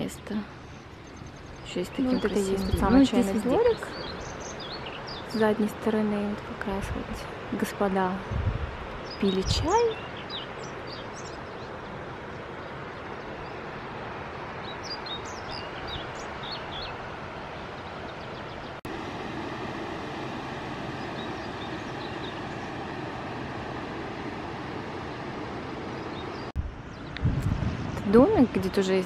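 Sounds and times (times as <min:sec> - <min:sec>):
small birds chirping: 0:00.0 - 0:13.9, 0:14.5 - 0:18.8, 0:20.9 - 0:22.9, 0:25.8 - 0:29.0.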